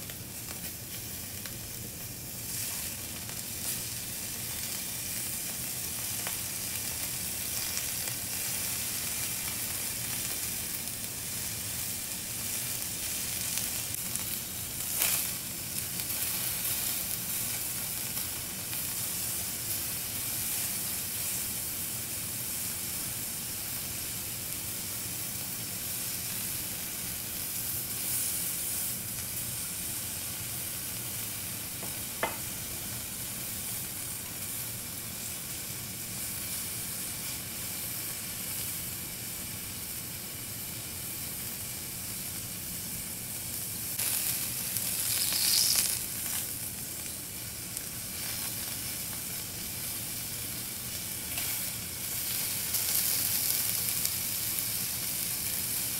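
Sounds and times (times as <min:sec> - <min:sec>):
kebabs sizzling on griddle: 0:00.0 - 0:55.9.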